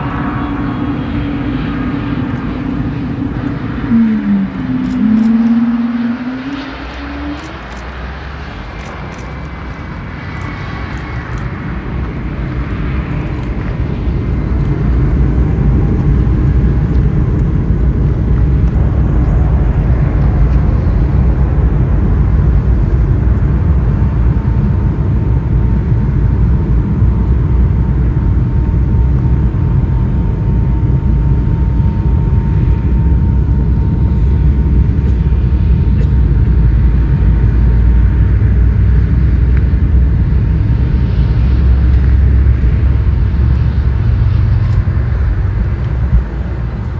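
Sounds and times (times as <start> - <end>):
jet engines rumbling during takeoff: 0.0 - 46.9.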